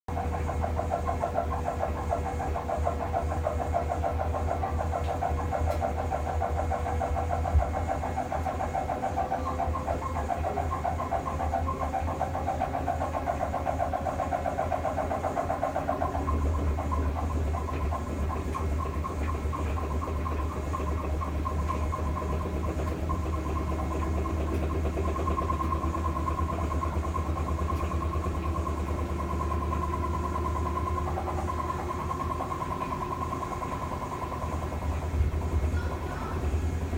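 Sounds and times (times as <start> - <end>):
washing machine spin cycle: 0.0 - 36.9.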